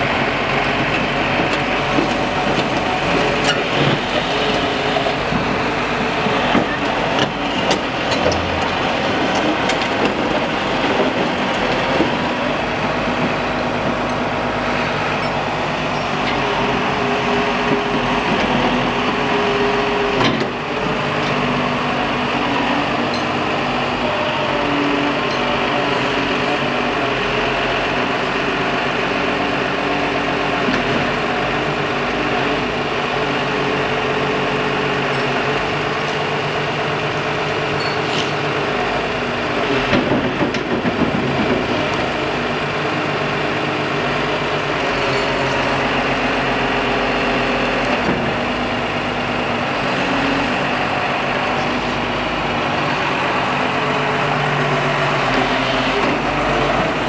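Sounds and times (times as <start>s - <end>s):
excavator diesel engine running: 0.0s - 57.0s
hydraulics working: 0.1s - 27.6s, 33.6s - 57.0s.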